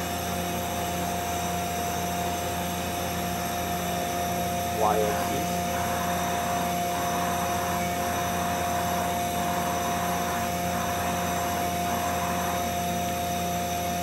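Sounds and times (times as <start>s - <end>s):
constant machine whine: 0.0s - 14.0s
machine hum: 2.4s - 14.0s.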